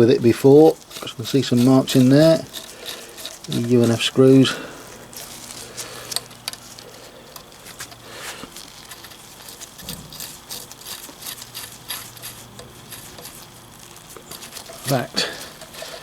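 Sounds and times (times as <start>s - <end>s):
metal tools clicking and tapping: 0.6s - 16.0s.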